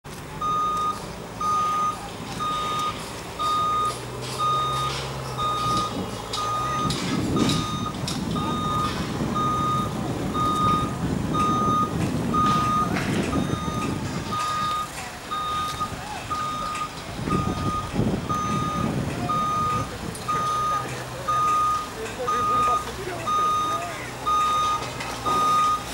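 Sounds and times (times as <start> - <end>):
heavy engine running: 0.0 - 25.9
reversing alarm beeping: 0.4 - 25.9.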